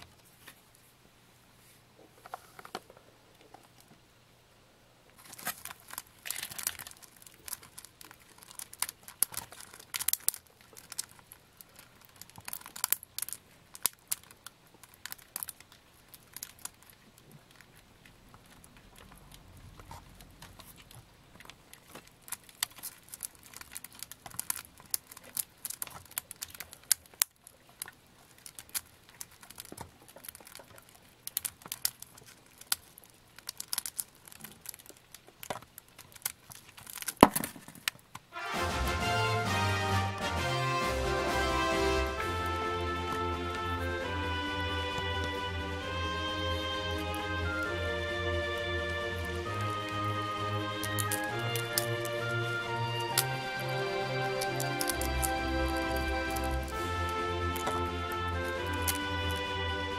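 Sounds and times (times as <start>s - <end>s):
beetle bodies knocking together: 5.2s - 38.2s, 42.7s - 52.4s, 53.0s - 59.8s.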